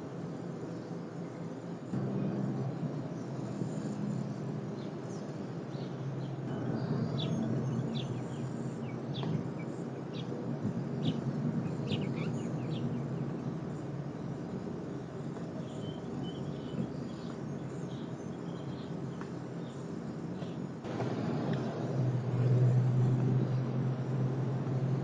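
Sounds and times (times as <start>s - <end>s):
low hum: 1.2s - 19.0s, 20.8s - 25.0s.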